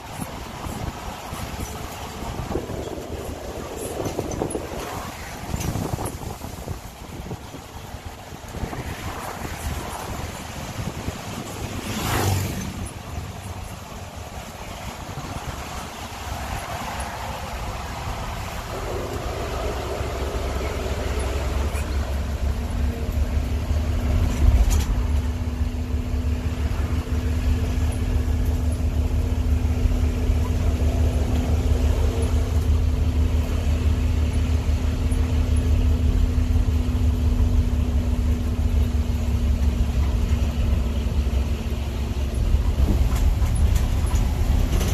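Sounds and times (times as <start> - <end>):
bus engine and road rumble: 0.0 - 44.9.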